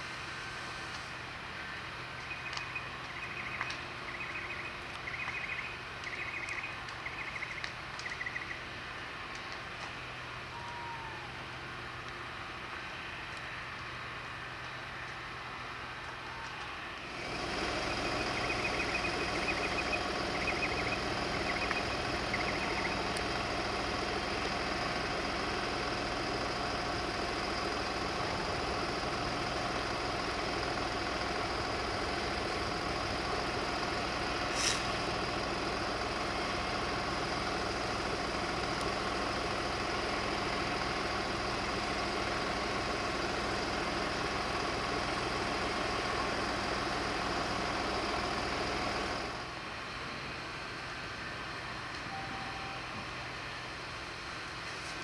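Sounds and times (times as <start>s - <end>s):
large vehicle engine idling: 0.0s - 55.0s.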